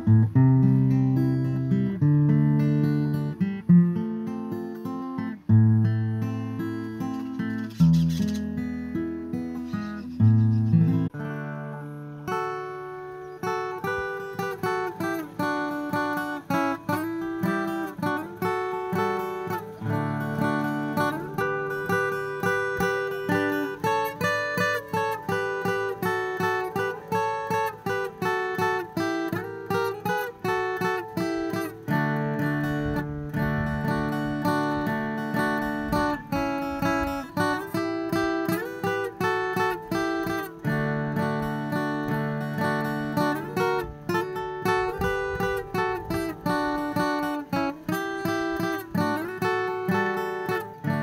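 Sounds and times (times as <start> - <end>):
acoustic guitar music: 0.0 - 51.0.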